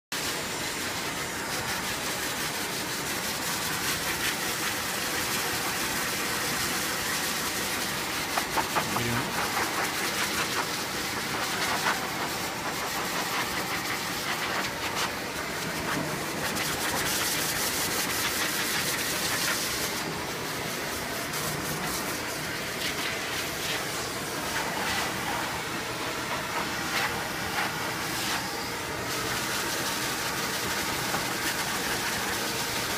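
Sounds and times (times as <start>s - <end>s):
pet dryer blowing air: 0.1s - 32.9s.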